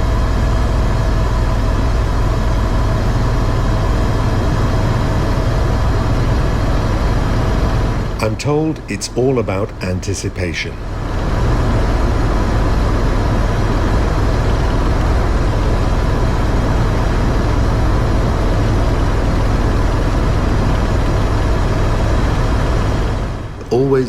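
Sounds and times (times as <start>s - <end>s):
helicopter turbine and rotor noise: 0.0s - 24.0s.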